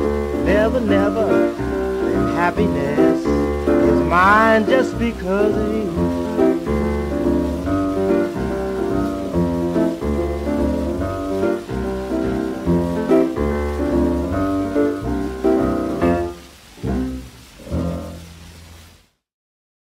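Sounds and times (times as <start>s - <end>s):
bass line: 0.0s - 18.3s
piano chords: 0.0s - 18.9s
record surface hiss: 0.0s - 19.3s.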